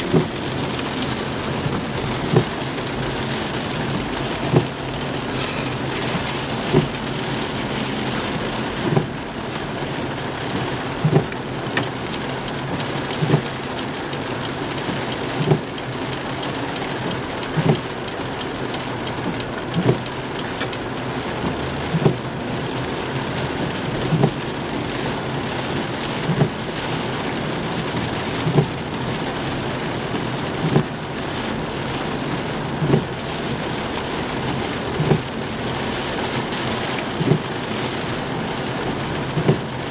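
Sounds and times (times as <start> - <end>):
windshield wipers thumping: 0.0 - 20.8, 21.5 - 22.8, 23.6 - 24.6, 26.0 - 27.6, 28.2 - 29.1, 30.3 - 31.0, 32.6 - 33.4, 34.6 - 39.8
heavy rain drumming on car: 0.0 - 39.9.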